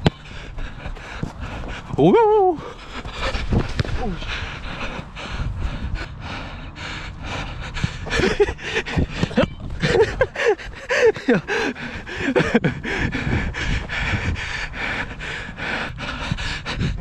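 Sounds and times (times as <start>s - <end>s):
hard panting breaths: 0.0s - 17.0s.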